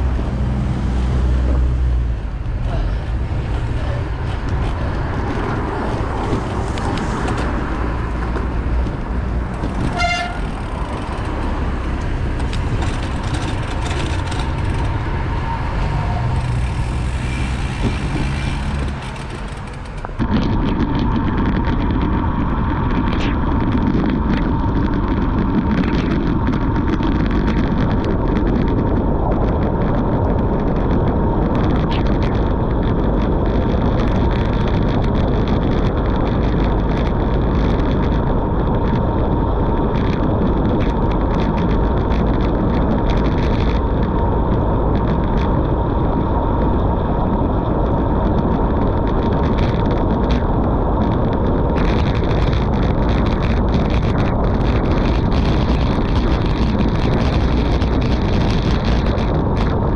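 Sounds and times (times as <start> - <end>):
road noise: 0.0 - 59.9
wind rushing over microphone: 0.0 - 59.9.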